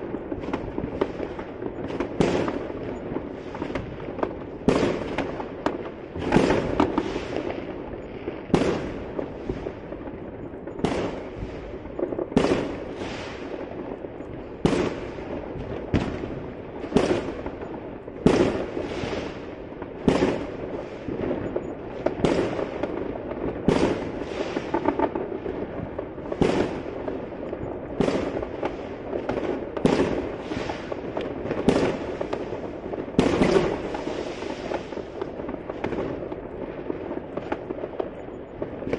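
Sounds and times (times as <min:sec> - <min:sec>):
distant fireworks bangs and crackling: 0:00.0 - 0:38.9
firework bangs with crackle: 0:00.0 - 0:38.9.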